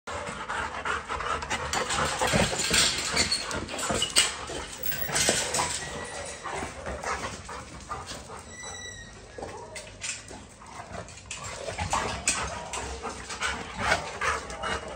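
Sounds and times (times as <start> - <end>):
metal gate rattling and clicking: 1.4 - 14.9.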